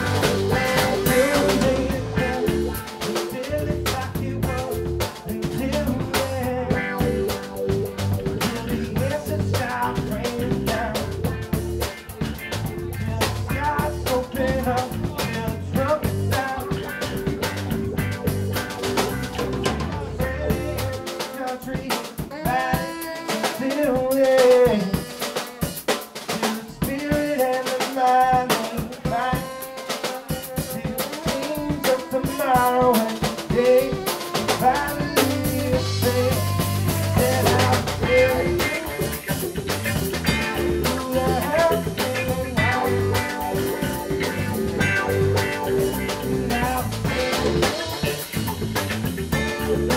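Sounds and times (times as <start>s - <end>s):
snare drum and rimshots: 0.0s - 6.5s, 16.3s - 49.9s
electric bass: 0.0s - 21.8s, 30.7s - 49.9s
bending guitar melody: 0.0s - 26.3s, 28.9s - 49.9s
live band playing: 0.0s - 49.9s.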